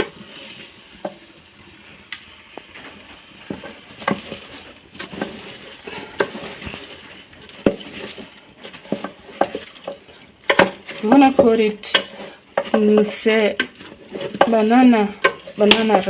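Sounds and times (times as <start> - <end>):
low frying sizzle: 0.0 - 16.0
spoon scraping a cooking pot: 2.7 - 16.0.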